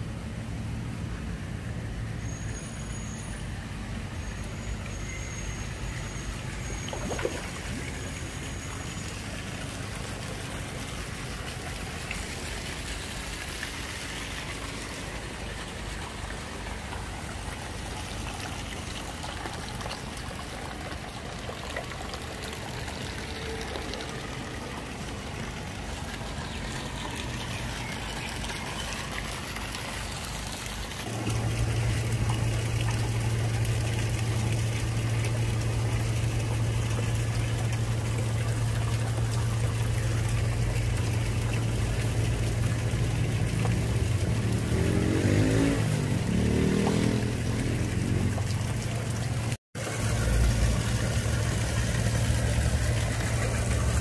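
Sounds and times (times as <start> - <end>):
road traffic: 0.0 - 54.0
water trickling into a pond: 0.0 - 54.0.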